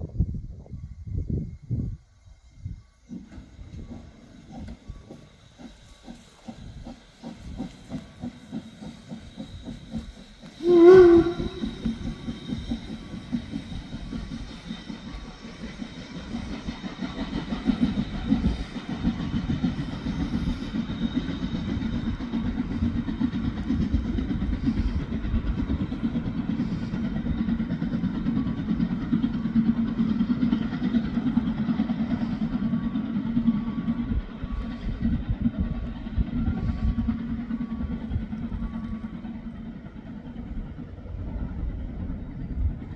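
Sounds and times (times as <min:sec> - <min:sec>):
steam locomotive working: 0:00.0 - 0:42.9
train rumbling on rails: 0:00.0 - 0:42.9.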